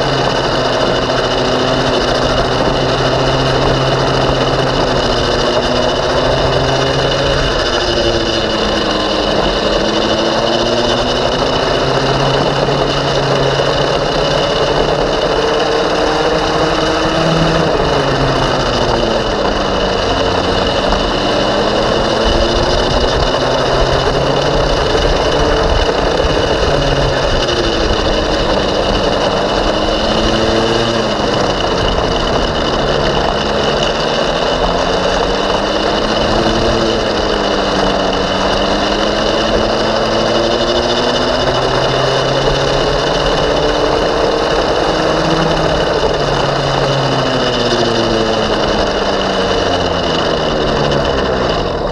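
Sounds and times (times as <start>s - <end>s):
go-kart engine revving: 0.0s - 51.9s
wind noise: 0.0s - 51.9s.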